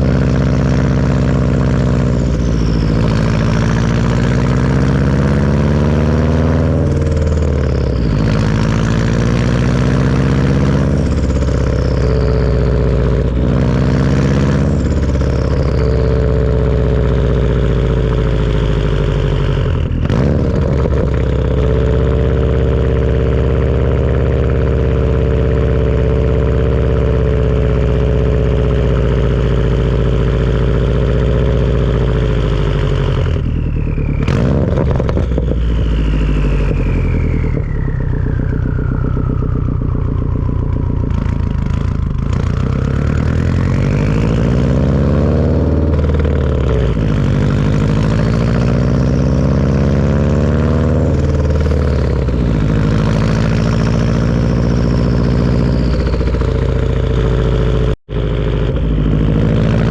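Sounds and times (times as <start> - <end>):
turbo whistle: 0.0 - 58.7
turbocharged car engine revving: 0.0 - 59.9.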